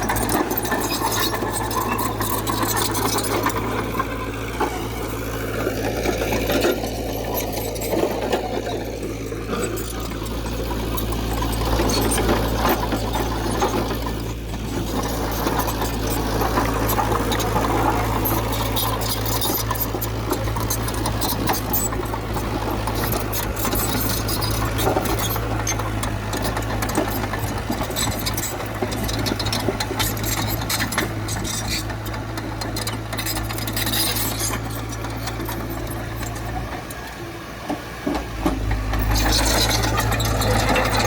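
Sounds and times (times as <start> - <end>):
metallic clicking and clatter: 0.0 - 4.8, 5.5 - 37.0
bulldozer diesel engine droning: 0.0 - 41.0.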